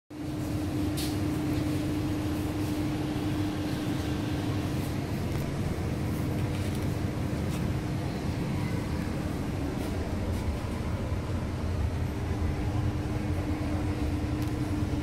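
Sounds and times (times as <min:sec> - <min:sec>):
train air conditioning hum and hiss: 0:00.1 - 0:15.0
steady drone: 0:01.5 - 0:15.0.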